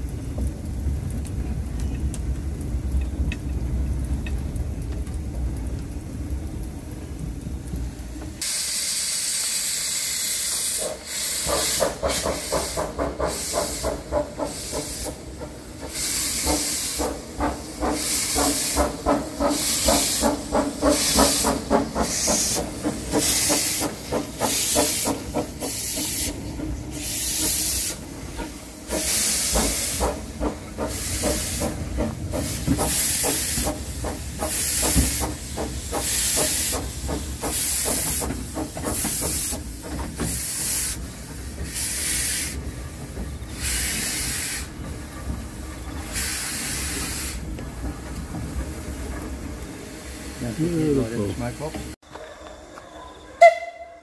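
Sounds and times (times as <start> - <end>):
steam locomotive chuffing: 6.4 - 52.0
steam hiss: 8.4 - 52.0.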